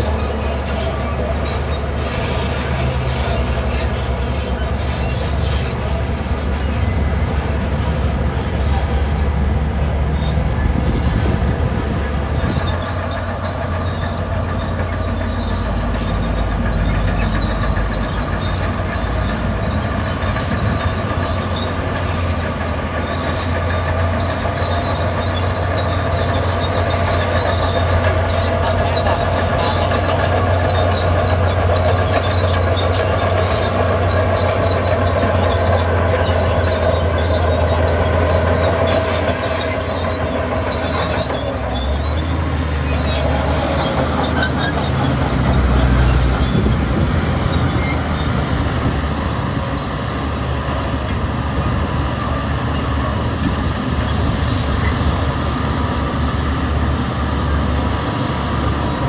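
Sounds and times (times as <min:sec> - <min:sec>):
bulldozer diesel engine under load: 0:00.0 - 0:59.0
steel tracks squealing and clattering: 0:00.0 - 0:59.0.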